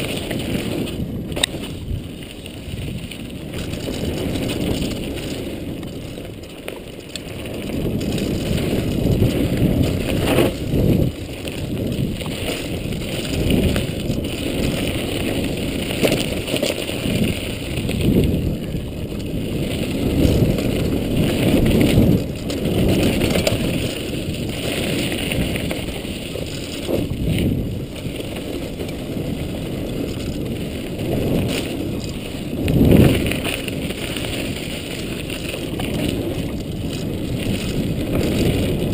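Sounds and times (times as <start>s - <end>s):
bike rattling and knocking: 0.0s - 38.9s
bike tyre rumble on dirt: 0.0s - 38.9s
wind on microphone: 0.0s - 38.9s.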